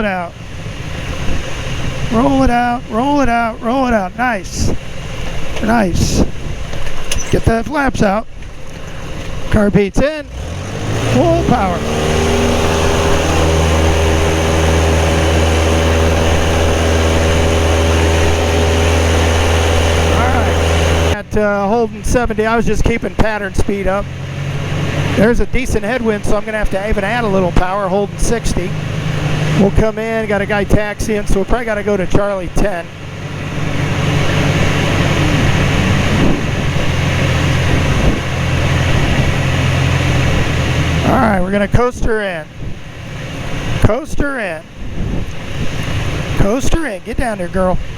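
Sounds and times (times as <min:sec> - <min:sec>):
airplane propeller engine drone: 0:00.0 - 0:47.9
rushing wind: 0:00.0 - 0:47.9.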